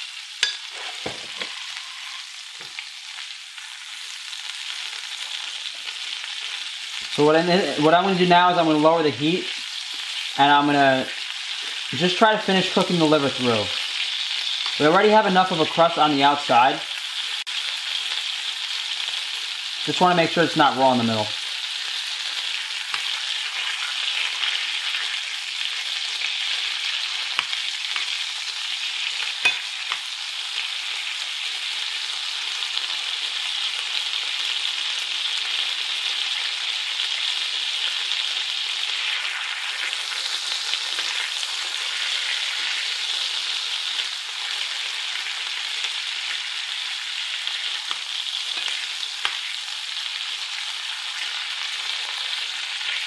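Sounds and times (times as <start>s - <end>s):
liver sizzling in a pan: 0.0s - 53.0s.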